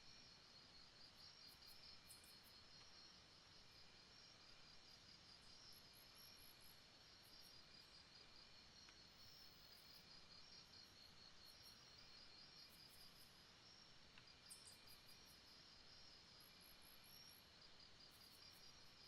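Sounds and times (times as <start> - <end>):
soft hiss: 0.0 - 19.0.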